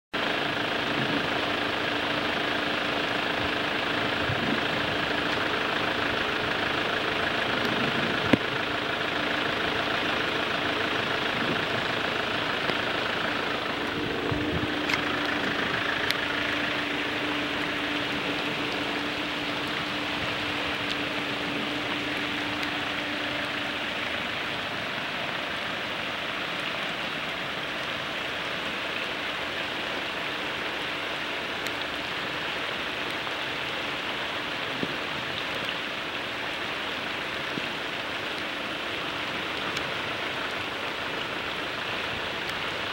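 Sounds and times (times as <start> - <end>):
heavy rain: 0.1 - 42.9
stream rushing in flood: 0.1 - 42.9.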